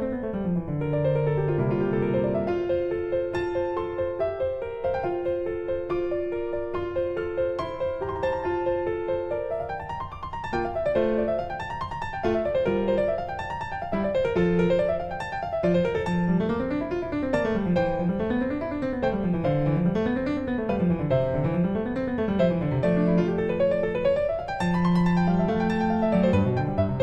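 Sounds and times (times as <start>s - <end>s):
piano playing rolling runs: 0.0s - 27.0s.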